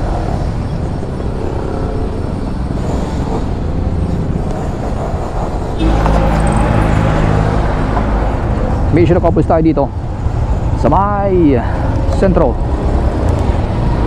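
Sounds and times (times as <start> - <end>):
road rumble: 0.0 - 14.0.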